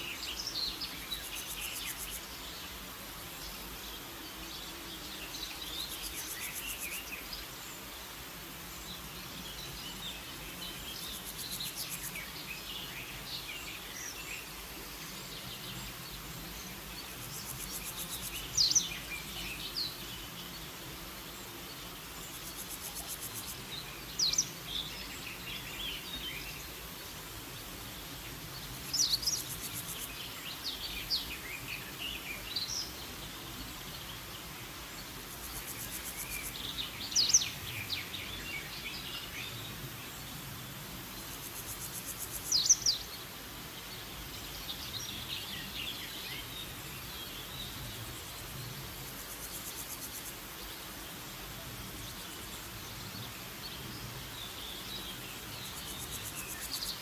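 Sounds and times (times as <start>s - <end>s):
faint high insect buzz: 0.0s - 57.0s
steady background hiss: 0.0s - 57.0s.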